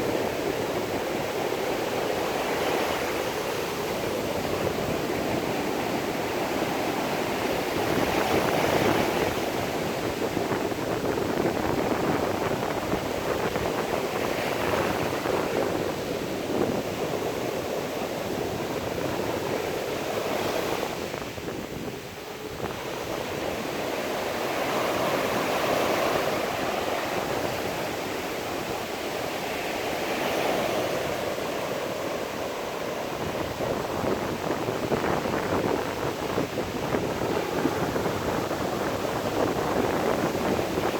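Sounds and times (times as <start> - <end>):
sea surf breaking: 0.0 - 40.9.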